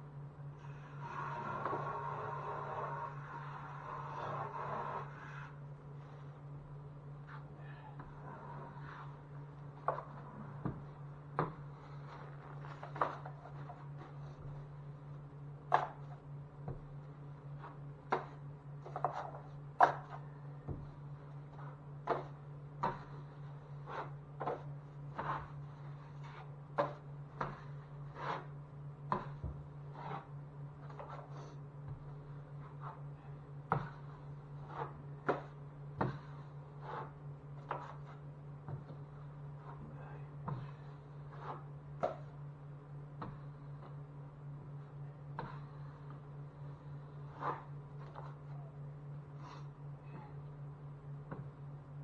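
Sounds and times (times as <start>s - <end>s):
steady low hum: 0.0s - 52.0s
tools tapping and scraping drywall: 0.6s - 6.5s, 7.2s - 50.6s.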